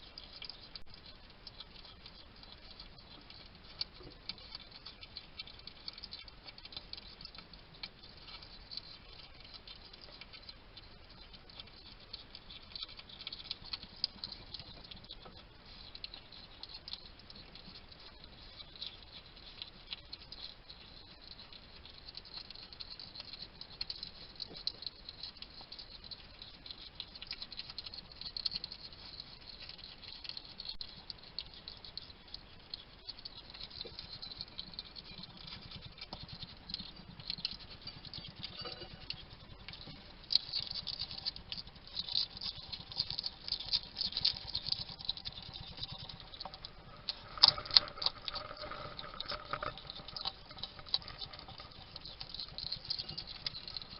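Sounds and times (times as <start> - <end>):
hedgehog chewing: 0.0 - 53.9.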